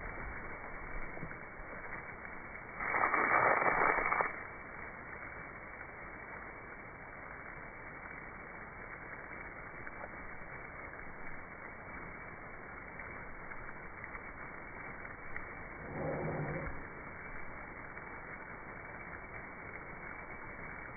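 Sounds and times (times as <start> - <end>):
hose water spraying: 0.0 - 20.9.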